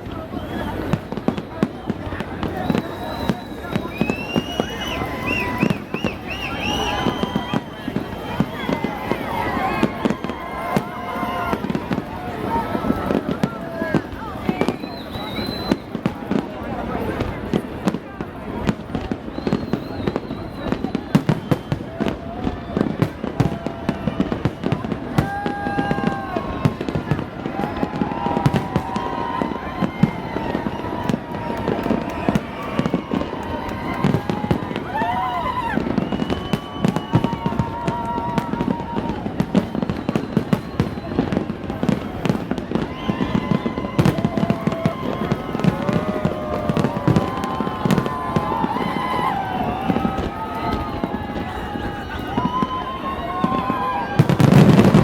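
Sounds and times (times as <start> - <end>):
firework whistling: 0.0 - 55.0
fireworks bangs and crackles: 0.0 - 55.0.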